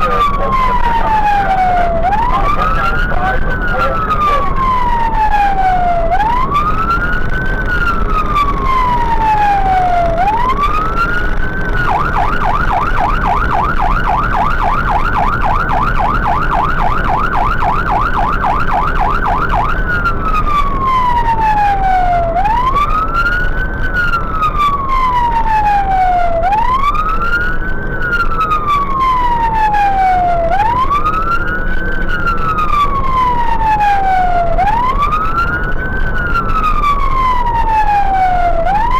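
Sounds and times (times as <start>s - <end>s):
fire engine siren: 0.0s - 38.9s
truck engine and road noise: 0.0s - 38.9s.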